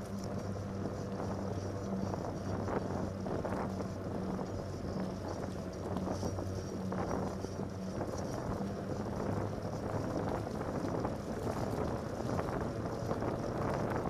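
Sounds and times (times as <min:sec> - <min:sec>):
bike rattling over bumps: 0:00.0 - 0:14.0
bike tires humming on wet pavement: 0:00.0 - 0:14.0
wind buffeting microphone: 0:00.0 - 0:14.0.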